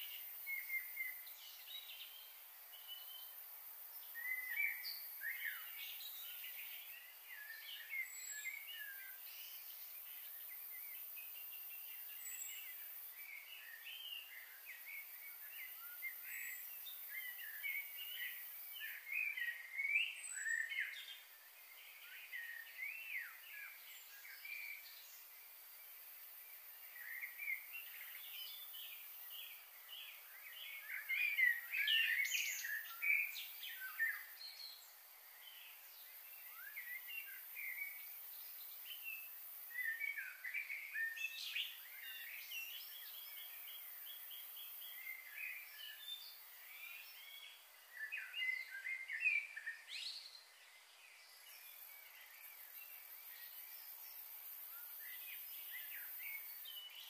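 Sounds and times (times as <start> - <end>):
faint steady high hiss: 0.0 - 57.0
small birds chirping and singing: 0.0 - 57.0.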